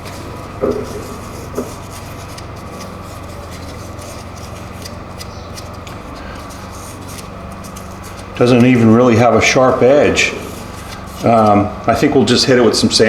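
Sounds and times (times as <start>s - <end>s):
metal lathe motor hum: 0.0s - 13.0s.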